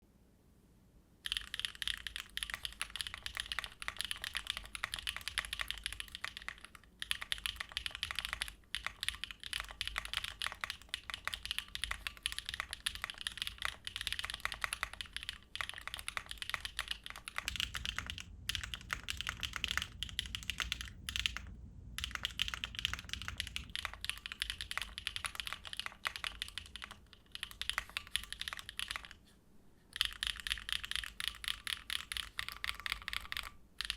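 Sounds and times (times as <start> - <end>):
fast typing on mechanical keyboard: 1.2 - 29.2, 30.0 - 33.9.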